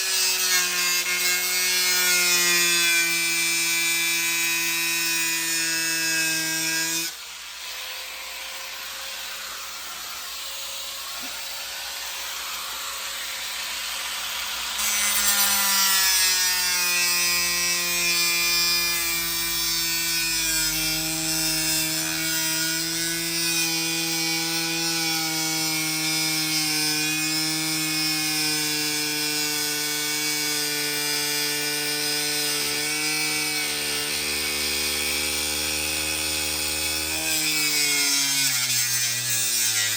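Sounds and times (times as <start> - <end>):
electric power saw cutting: 0.0 - 39.9.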